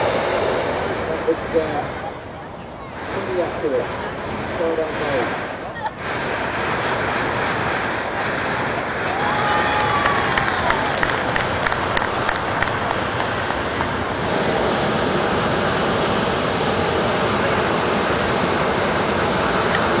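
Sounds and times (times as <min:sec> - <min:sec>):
propane burner rushing: 0:00.0 - 0:20.0.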